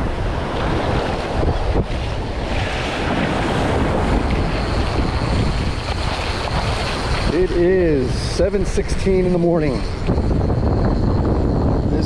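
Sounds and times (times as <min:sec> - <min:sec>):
surf washing in shallows: 0:00.0 - 0:12.0
wind rumbling on microphone: 0:00.0 - 0:12.0.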